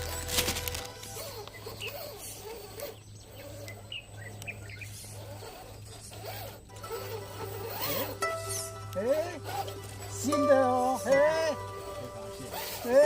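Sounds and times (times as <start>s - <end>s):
rc car electric motor whining: 0.0s - 13.0s.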